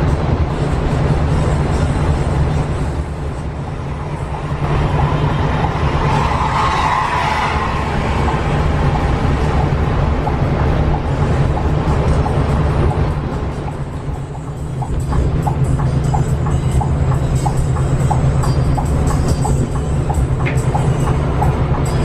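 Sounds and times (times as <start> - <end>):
bus engine drone: 0.0 - 22.0
road and wind noise: 0.0 - 22.0.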